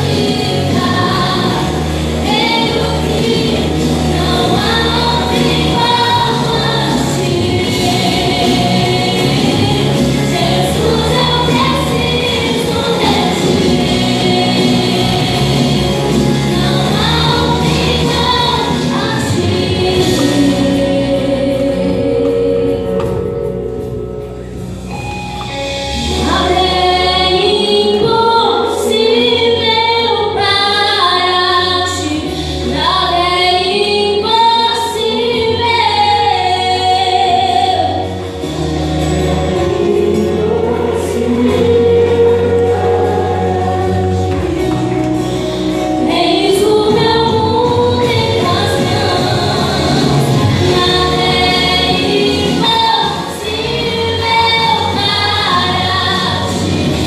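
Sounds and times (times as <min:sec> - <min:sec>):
woman singing a worship ballad: 0:00.0 - 0:23.8, 0:26.0 - 0:57.0
instrumental accompaniment: 0:00.0 - 0:57.0.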